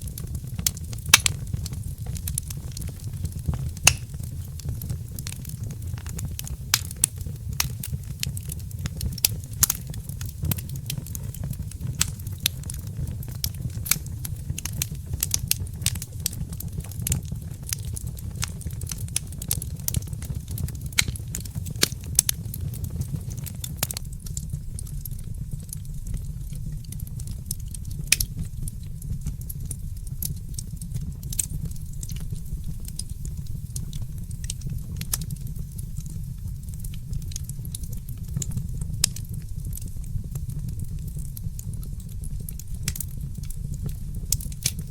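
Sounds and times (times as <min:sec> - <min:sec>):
fireplace fire crackling: 0:00.0 - 0:44.9.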